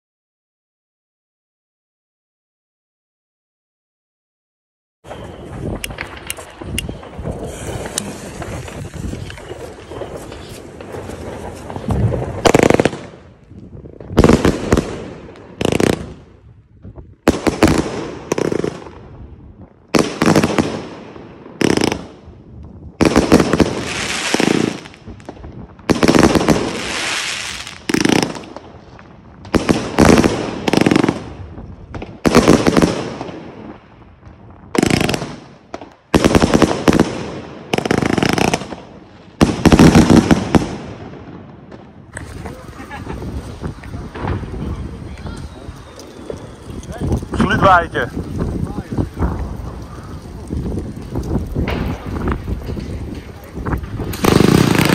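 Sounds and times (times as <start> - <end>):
fireworks firing loud shots: 5.1 - 54.9.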